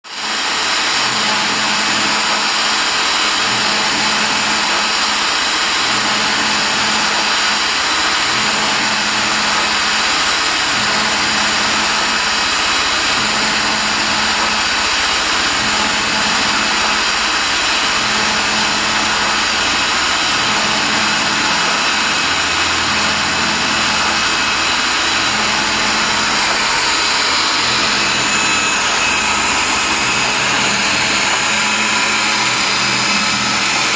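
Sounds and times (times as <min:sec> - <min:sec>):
pipe threader motor running: 0:00.0 - 0:33.9.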